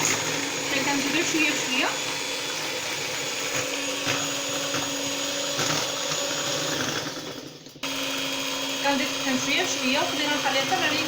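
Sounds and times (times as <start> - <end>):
electric mixer running: 0.0 - 11.0.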